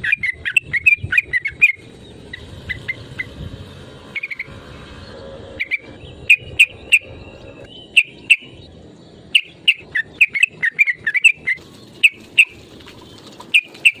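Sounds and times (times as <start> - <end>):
bird chirping calls: 0.0 - 14.0.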